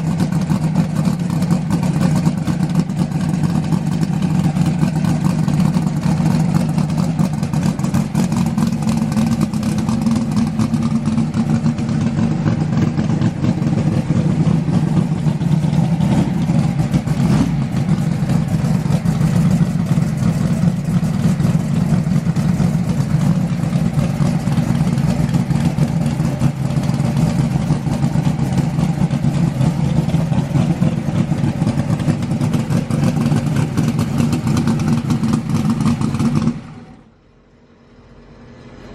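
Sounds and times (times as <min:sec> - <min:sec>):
loud car engine idling: 0:00.0 - 0:38.9.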